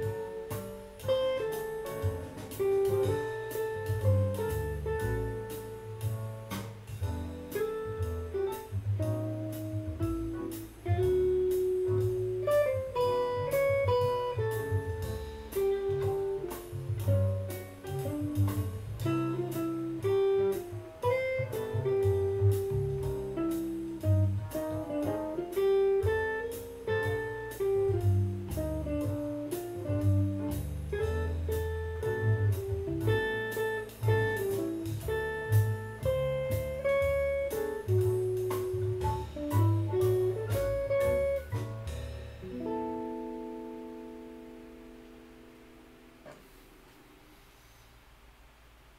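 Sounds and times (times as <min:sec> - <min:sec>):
bass line: 0:00.0 - 0:46.2
electric guitar jazz solo: 0:00.0 - 0:46.6.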